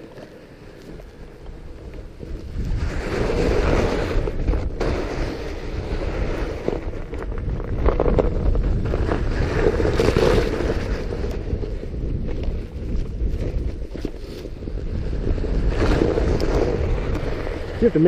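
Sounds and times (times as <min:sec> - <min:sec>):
bike tires crunching on snow: 0:00.0 - 0:18.0
wind rushing over microphone: 0:00.0 - 0:18.0.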